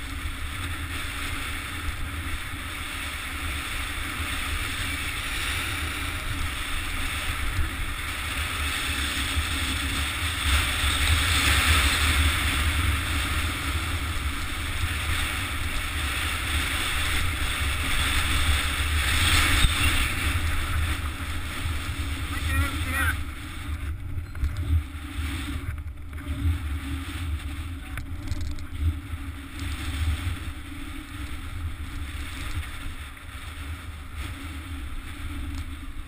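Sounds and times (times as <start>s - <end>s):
bike rattling: 0.0s - 36.0s
wind rumbling on microphone: 0.0s - 36.0s.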